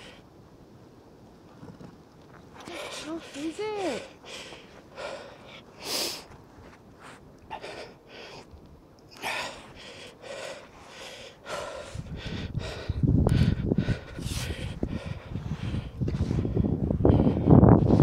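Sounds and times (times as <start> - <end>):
person breathing hard: 2.6 - 6.4, 7.0 - 18.0.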